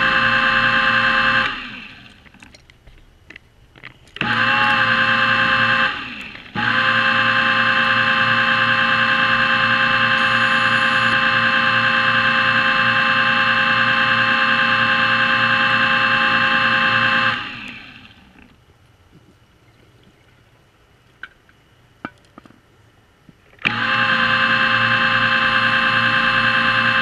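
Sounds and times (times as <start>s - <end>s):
underwater scooter motor whining: 0.0s - 2.7s, 3.8s - 20.6s, 23.6s - 27.0s.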